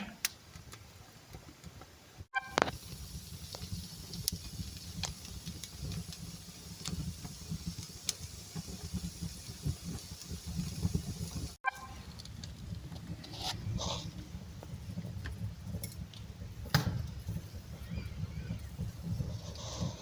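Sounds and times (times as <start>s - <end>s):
fire crackles and pops: 0.0s - 20.0s
wood fire rumbling: 0.0s - 20.0s.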